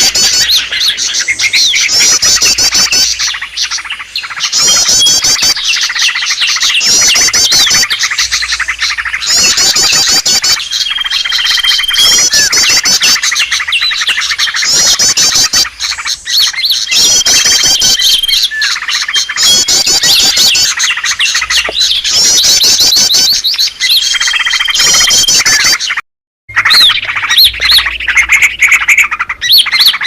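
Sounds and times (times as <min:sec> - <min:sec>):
small birds chirping and trilling: 0:00.0 - 0:30.0.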